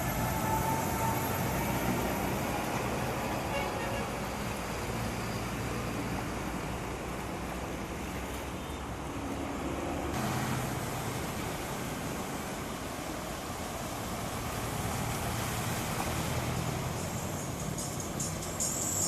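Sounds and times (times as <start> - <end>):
vehicles passing slowly: 0.0 - 19.0.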